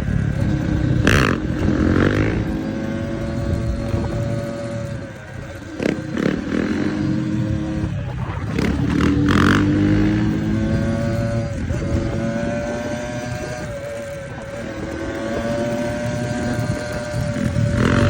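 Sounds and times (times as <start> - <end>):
dirt bike engine high pitch: 0.0 - 18.0.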